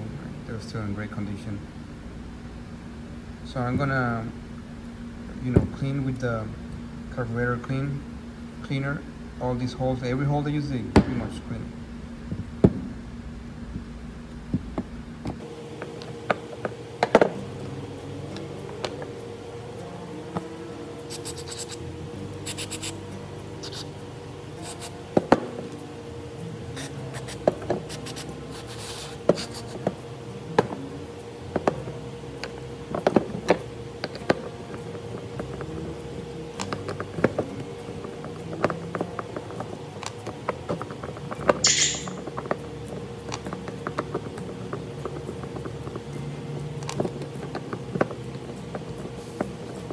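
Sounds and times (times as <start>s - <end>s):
faint steady hum: 0.0s - 49.9s.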